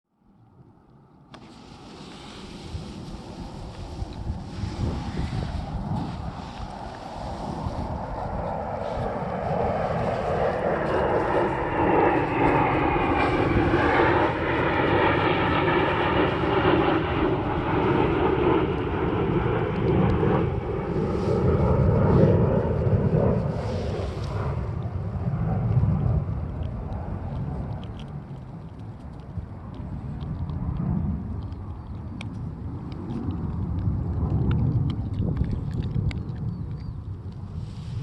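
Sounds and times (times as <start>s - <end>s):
aircraft engine drone overhead: 0.1s - 38.0s.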